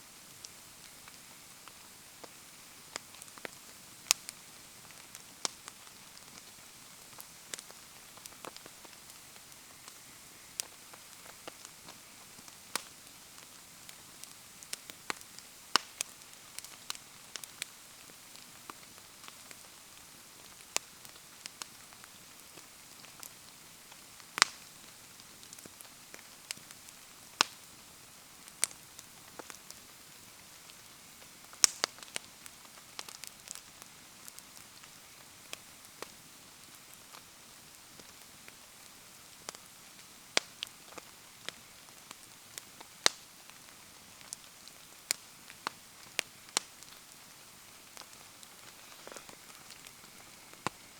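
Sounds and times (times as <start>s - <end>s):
rain hiss: 0.0s - 50.9s
bonfire popping: 0.3s - 50.9s.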